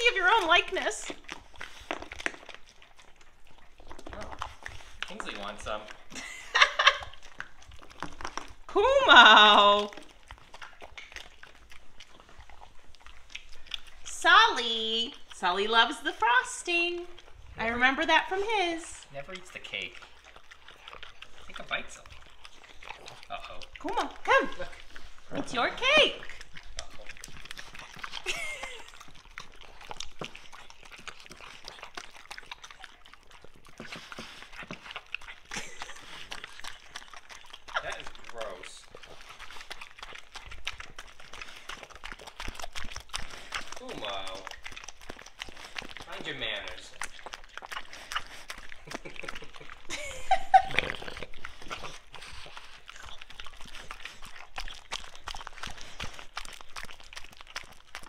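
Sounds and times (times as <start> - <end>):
dogs licking and chewing: 0.0 - 58.0.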